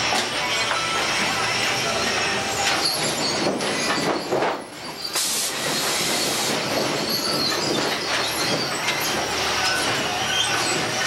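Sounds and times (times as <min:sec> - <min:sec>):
chains and rollers clanking and squealing: 0:00.0 - 0:11.0.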